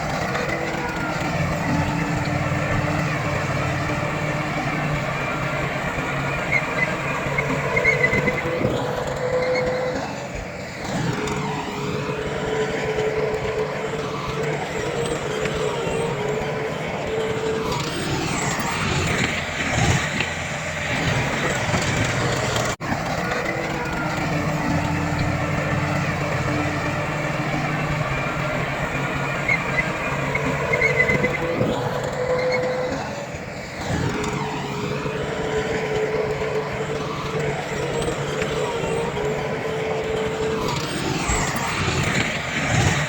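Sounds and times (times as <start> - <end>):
heavy diesel machinery engines: 0.0 - 43.0.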